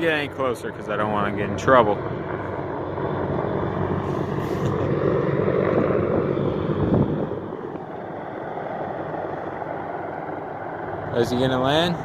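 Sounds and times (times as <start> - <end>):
helicopter rotors and engines: 0.0 - 12.0.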